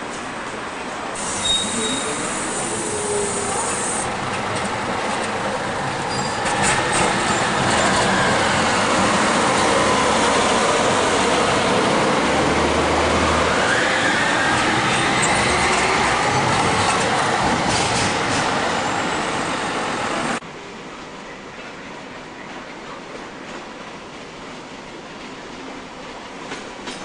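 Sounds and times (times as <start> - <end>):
tram passing: 0.0 - 27.0.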